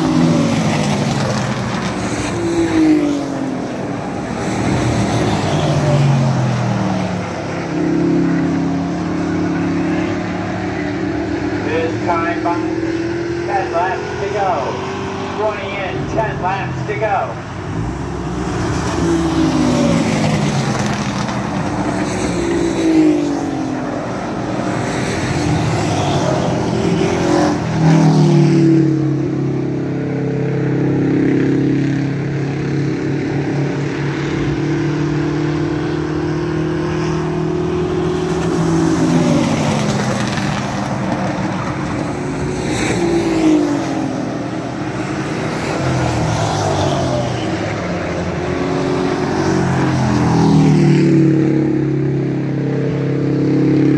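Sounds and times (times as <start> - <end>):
race truck engines: 0.0 - 53.9.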